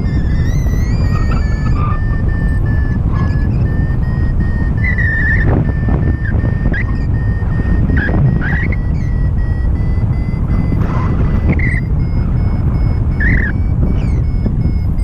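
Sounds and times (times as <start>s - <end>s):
variometer beeping in short pulses: 0.0s - 15.0s
wind rumble on microphone: 0.0s - 15.0s.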